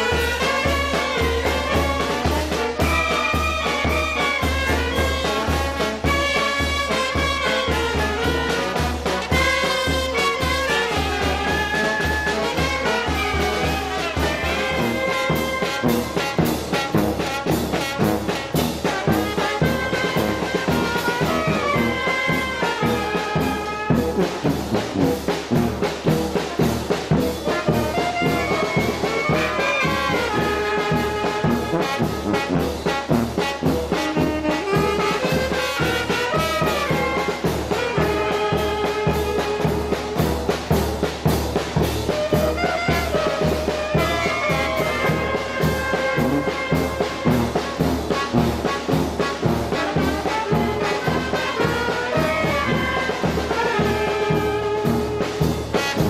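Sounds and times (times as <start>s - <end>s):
brass band playing dance tune: 0.0s - 56.0s.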